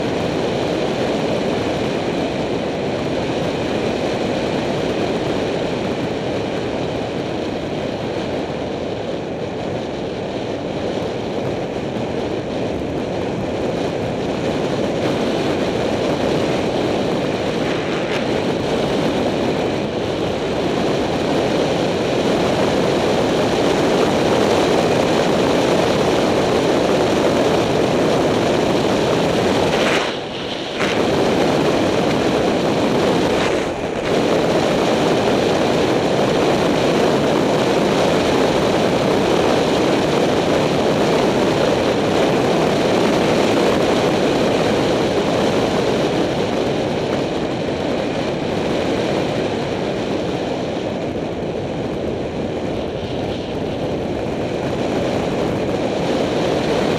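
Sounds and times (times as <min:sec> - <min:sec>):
tyre noise on asphalt: 0:00.0 - 0:56.9
wind rushing over microphone: 0:00.0 - 0:56.9.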